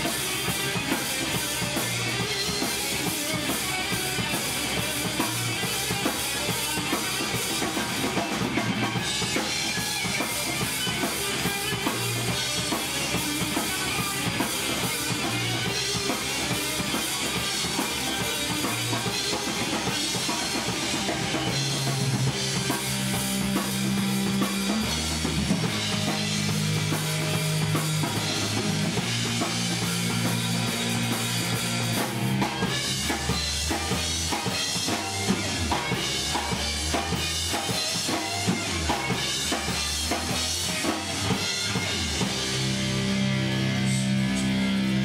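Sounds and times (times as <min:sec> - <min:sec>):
held low guitar and bass notes: 0:00.0 - 0:45.0
live rock band playing: 0:00.0 - 0:45.0.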